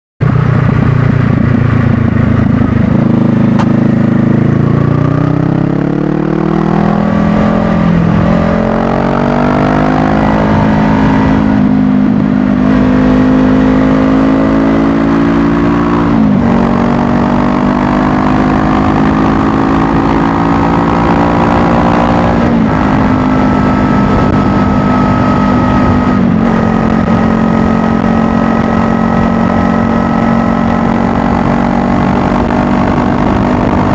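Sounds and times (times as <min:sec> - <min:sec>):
motorcycle engine accelerating: 0:00.2 - 0:33.9.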